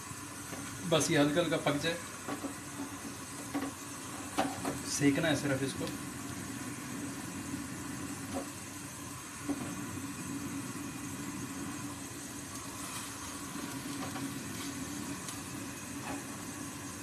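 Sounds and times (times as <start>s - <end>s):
gas burner hissing: 0.0s - 17.0s.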